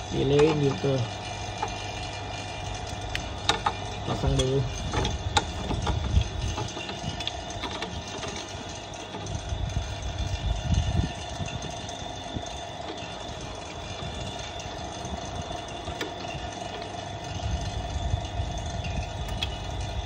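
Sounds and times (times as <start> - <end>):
vacuum pump running: 0.0 - 20.0.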